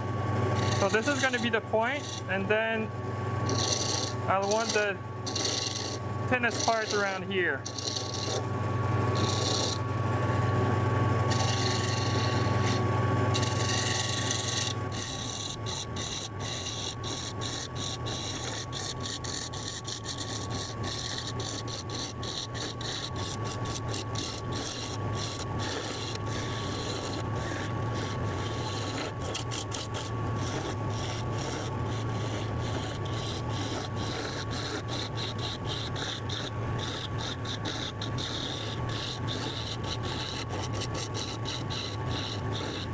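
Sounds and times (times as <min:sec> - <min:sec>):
gouge rasping on spinning wood: 0:00.0 - 0:42.9
lathe motor hum and whine: 0:00.0 - 0:42.9.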